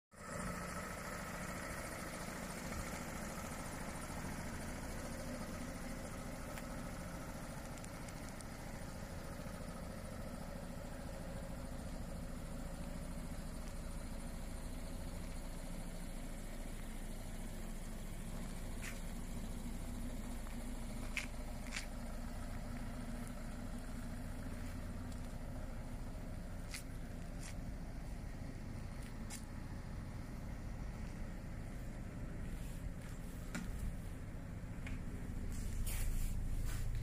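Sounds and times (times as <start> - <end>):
diesel engine idling: 0.2 - 37.0.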